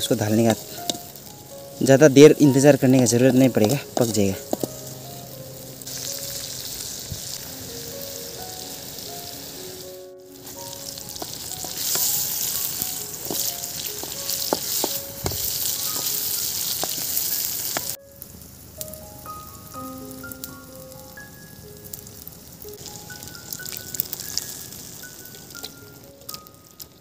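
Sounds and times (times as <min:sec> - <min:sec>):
soft background melody: 0:00.0 - 0:27.0
tomatoes sizzling in oil: 0:00.0 - 0:27.0.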